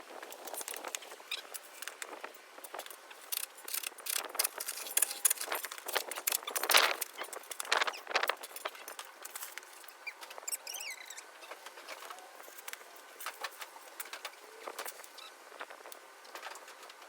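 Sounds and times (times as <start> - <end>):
clinks rattles and scrapes: 0.4 - 17.0.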